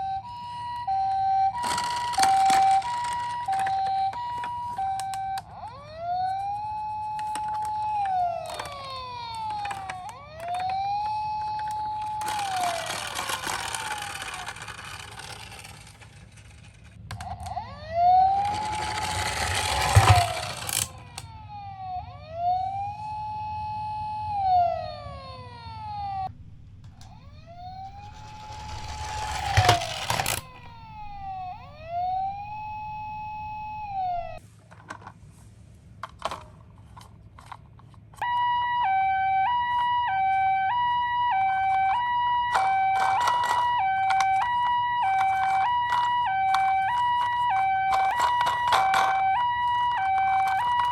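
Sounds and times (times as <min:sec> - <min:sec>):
two-tone hi-lo siren: 0:00.0 - 0:16.1, 0:17.2 - 0:34.4, 0:38.2 - 0:50.9
plastic wheels rolling on cardboard: 0:00.0 - 0:21.2, 0:25.9 - 0:35.3, 0:39.5 - 0:50.9
toy electronic siren wailing: 0:00.0 - 0:34.4, 0:38.2 - 0:50.9.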